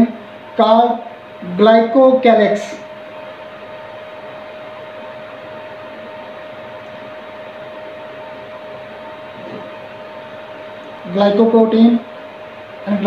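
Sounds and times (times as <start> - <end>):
fan whirring: 0.0 - 13.0
mid-pitched hum: 0.0 - 13.0.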